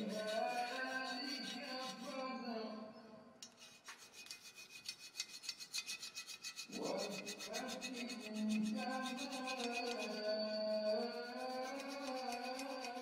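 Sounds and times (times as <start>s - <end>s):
file rasping on metal: 0.0s - 2.2s, 3.5s - 13.0s.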